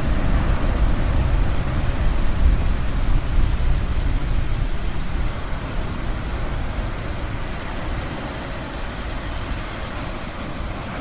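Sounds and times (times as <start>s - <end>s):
deep continuous rumble: 0.0s - 11.0s
ocean surf washing: 0.0s - 11.0s.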